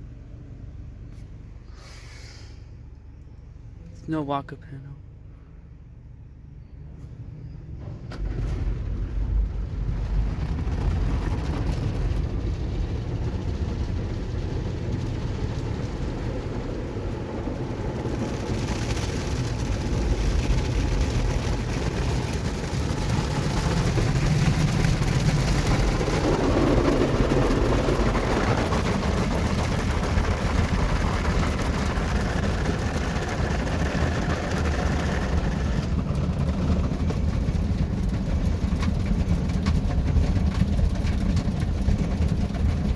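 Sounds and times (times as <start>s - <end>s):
car wash machinery rumble: 0.0s - 42.9s.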